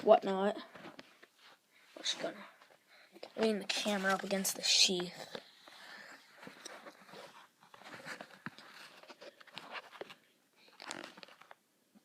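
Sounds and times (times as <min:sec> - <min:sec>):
handling rustling: 0:00.7 - 0:11.6.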